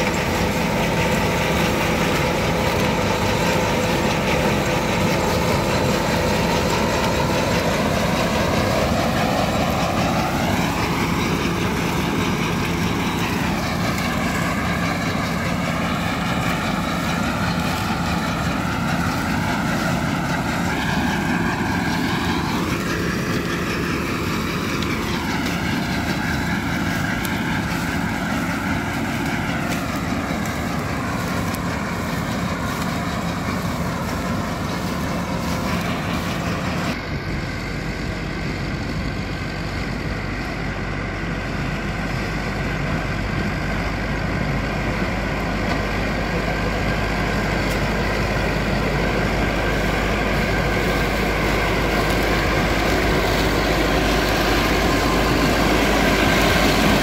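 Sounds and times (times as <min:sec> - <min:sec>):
corn picker machinery whine: 0:00.0 - 0:57.0
tractor diesel engine under load: 0:00.0 - 0:57.0.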